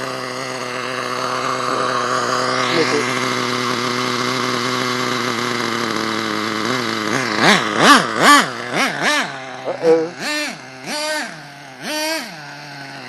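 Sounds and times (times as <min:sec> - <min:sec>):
model truck engine idling: 0:00.0 - 0:13.0.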